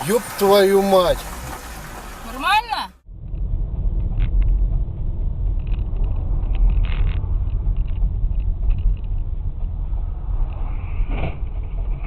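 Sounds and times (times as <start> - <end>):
car driving: 0.0 - 12.0.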